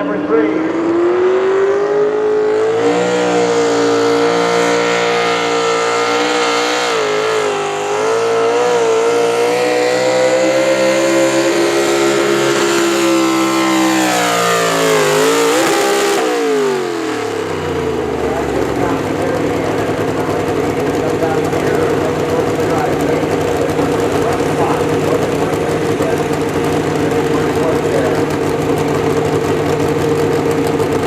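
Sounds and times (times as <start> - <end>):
engine revving under load: 0.0 - 31.0.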